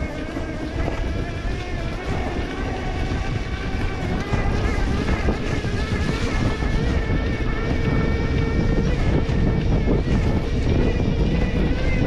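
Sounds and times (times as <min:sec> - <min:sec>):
electric motor whining: 0:00.0 - 0:12.0
wind buffeting microphone: 0:00.0 - 0:12.0.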